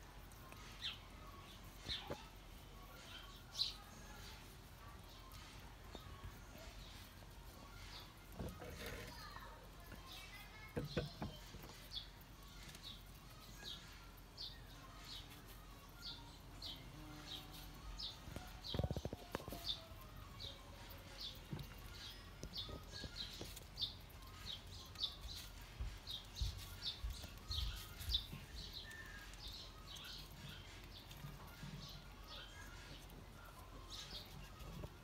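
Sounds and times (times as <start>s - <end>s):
small bird chirping: 0.0s - 35.0s.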